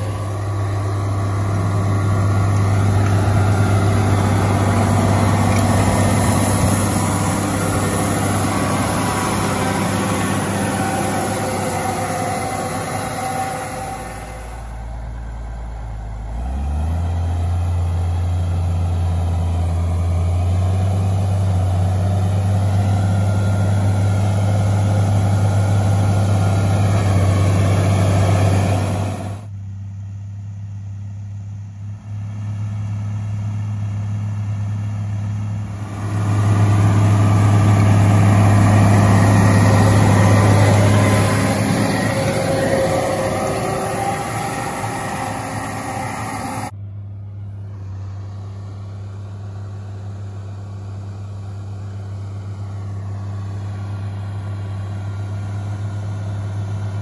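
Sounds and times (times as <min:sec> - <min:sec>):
tractor diesel engine running: 0:00.0 - 0:29.7, 0:31.9 - 0:57.0.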